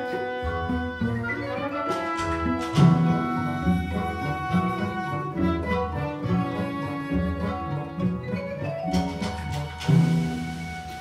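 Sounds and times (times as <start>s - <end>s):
symphony orchestra playing: 0.0s - 11.0s.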